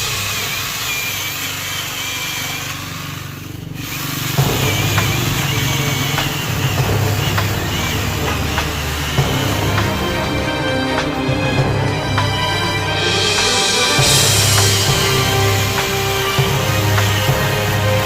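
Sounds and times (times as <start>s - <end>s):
angle grinder motor drone: 0.0s - 18.0s.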